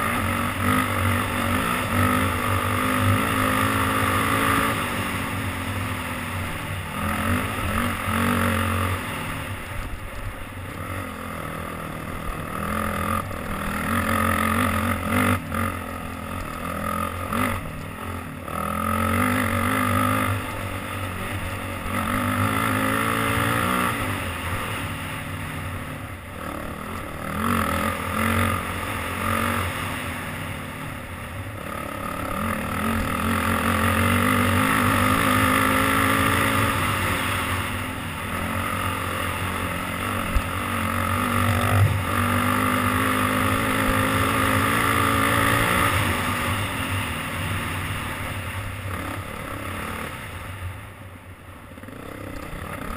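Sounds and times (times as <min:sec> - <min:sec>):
dirt bike engine revving: 0:00.0 - 0:09.8, 0:10.6 - 0:50.4.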